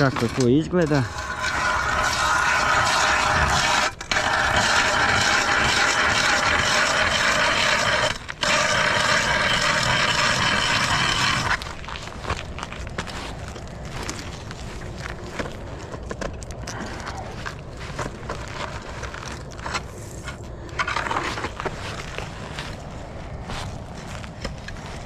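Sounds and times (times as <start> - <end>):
ice auger grinding: 0.0 - 16.0, 16.6 - 22.8.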